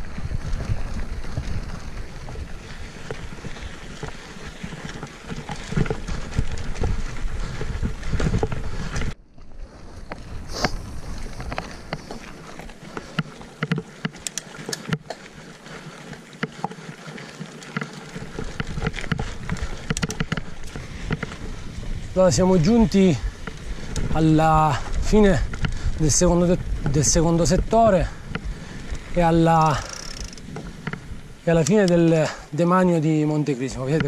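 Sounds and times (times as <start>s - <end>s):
wind rumbling on microphone: 0.0s - 15.5s, 18.0s - 32.6s
bike tyre noise: 0.0s - 32.7s
bike clicks and rattles: 0.1s - 32.4s.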